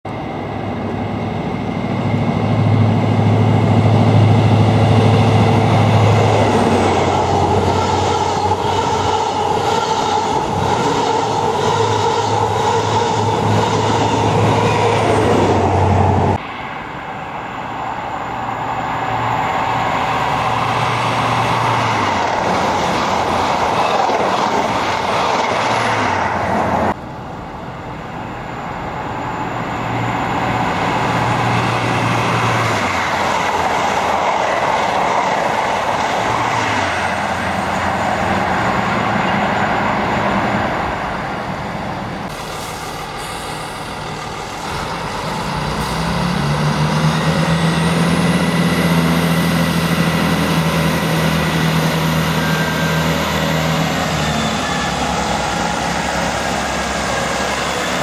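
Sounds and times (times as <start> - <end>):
trains passing on rails: 0.0 - 58.0.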